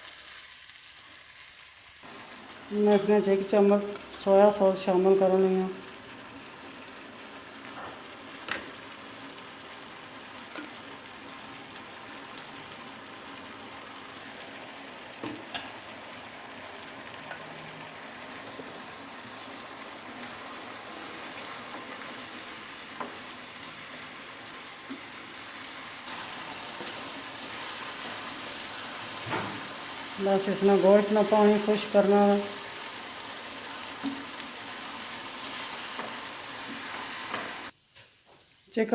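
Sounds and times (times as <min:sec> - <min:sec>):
chicken sizzling in a pan: 0:00.0 - 0:38.9.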